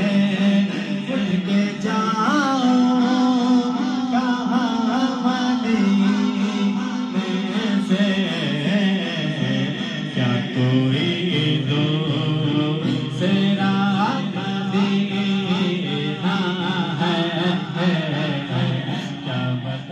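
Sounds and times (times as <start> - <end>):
man singing into microphone: 0.0 - 19.9.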